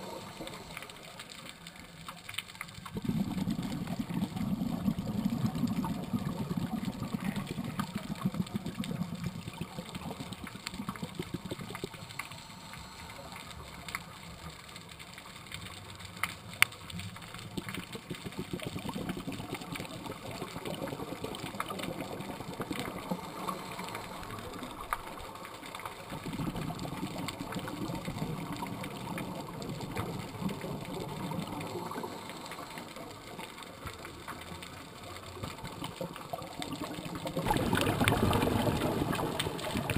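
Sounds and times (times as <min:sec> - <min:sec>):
underwater diver breathing bubbles: 0:00.0 - 0:01.6, 0:02.8 - 0:14.0, 0:17.3 - 0:34.1, 0:35.6 - 0:39.9
sharp underwater clicks: 0:00.2 - 0:39.9.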